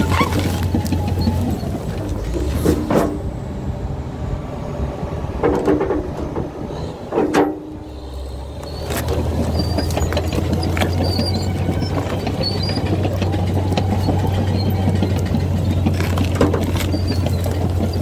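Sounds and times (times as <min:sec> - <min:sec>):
bulldozer diesel engine running: 0:00.0 - 0:18.0
metallic squeals of steel tracks: 0:00.0 - 0:18.0.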